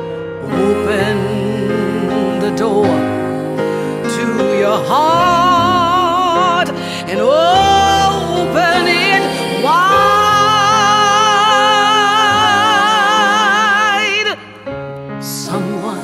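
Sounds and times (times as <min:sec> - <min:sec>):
piano: 0:00.0 - 0:16.0
choir singing: 0:00.4 - 0:14.6, 0:15.2 - 0:16.0.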